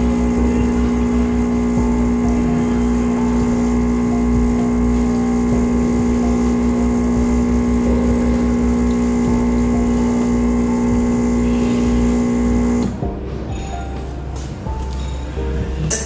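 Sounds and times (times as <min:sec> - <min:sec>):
espresso machine pump humming: 0:00.0 - 0:13.0.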